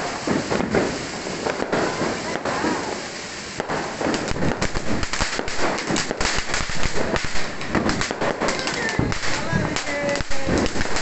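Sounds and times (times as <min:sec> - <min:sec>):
fountain firework hissing and crackling: 0:00.0 - 0:11.0.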